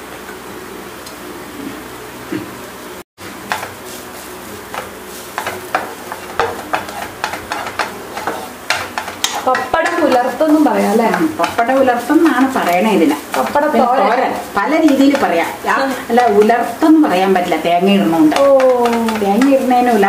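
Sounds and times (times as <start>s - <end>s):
food sizzling in a pan: 3.2s - 20.0s
wooden spatula scraping a pan: 3.5s - 20.0s.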